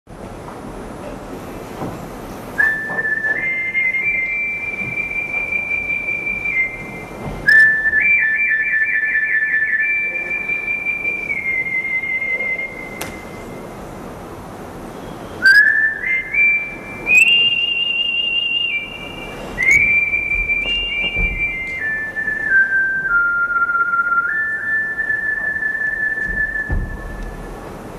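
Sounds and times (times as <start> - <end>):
person whistling a tune: 2.6 - 13.5, 15.4 - 27.6.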